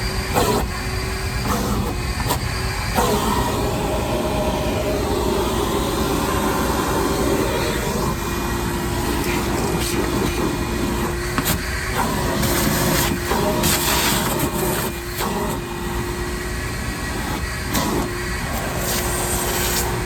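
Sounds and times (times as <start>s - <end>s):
shop vacuum running: 0.0s - 20.0s.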